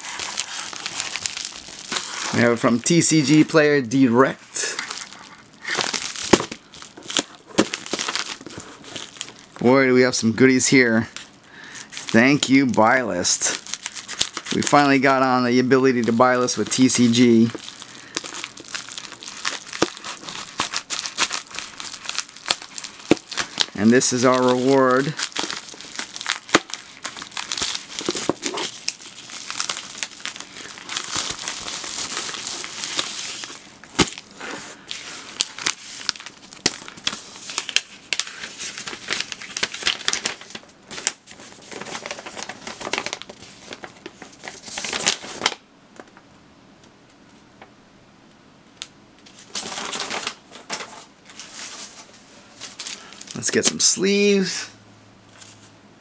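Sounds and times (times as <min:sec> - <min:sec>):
plastic mailer crinkling: 0:00.0 - 0:45.6, 0:49.2 - 0:54.5.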